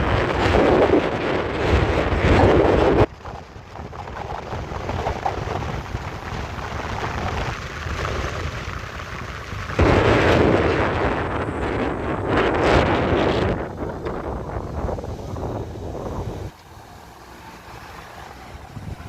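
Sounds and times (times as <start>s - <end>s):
truck rumbling: 0.0s - 19.0s
wind buffeting microphone: 0.0s - 19.0s.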